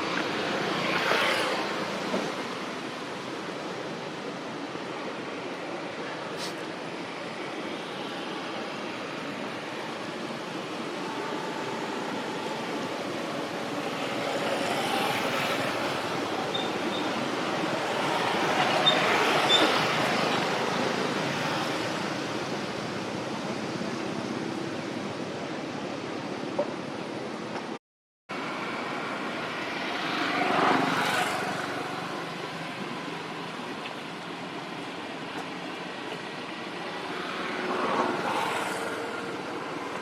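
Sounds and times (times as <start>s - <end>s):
passing road traffic: 0.0s - 27.7s, 28.3s - 40.0s.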